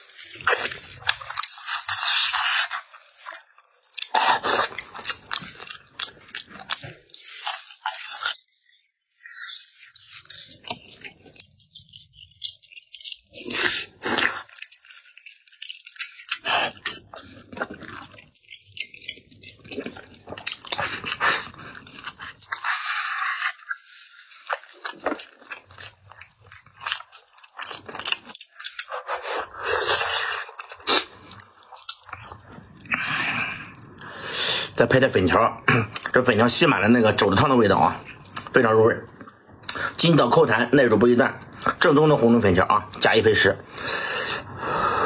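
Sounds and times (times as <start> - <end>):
person chewing food: 0.0 - 34.8, 37.9 - 40.2.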